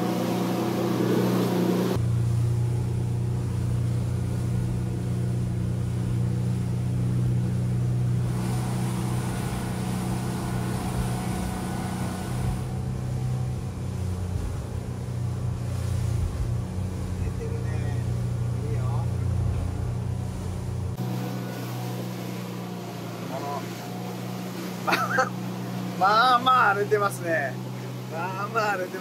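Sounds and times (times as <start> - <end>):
motorboat engine droning: 0.0 - 29.0
water rushing: 0.0 - 29.0
wind: 0.0 - 29.0.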